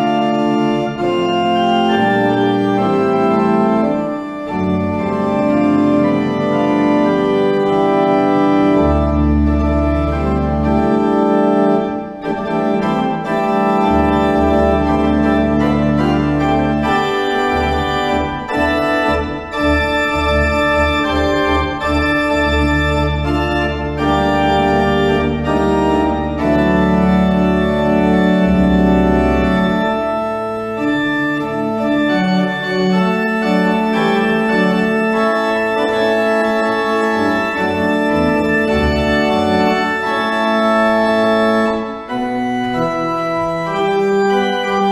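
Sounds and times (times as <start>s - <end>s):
organ playing sustained chords: 0.0s - 44.9s.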